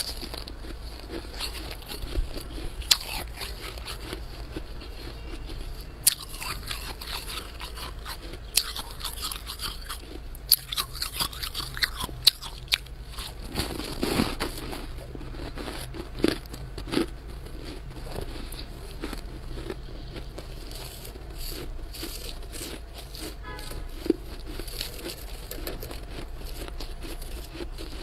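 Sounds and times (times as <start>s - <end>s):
freezer low hum: 0.0s - 28.0s
frost crunching: 0.0s - 28.0s.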